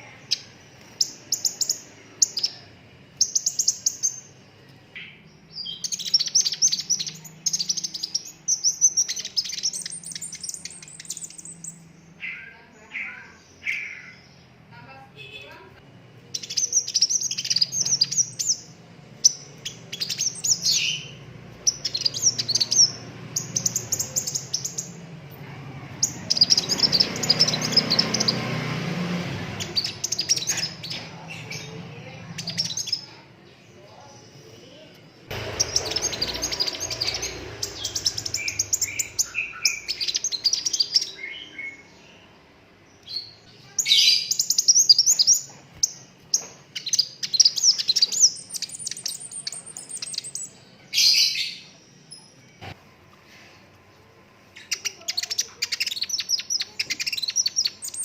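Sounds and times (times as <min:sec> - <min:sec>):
sunbird chirps and trills: 0:00.0 - 0:14.6, 0:16.3 - 0:52.7, 0:54.5 - 0:58.0.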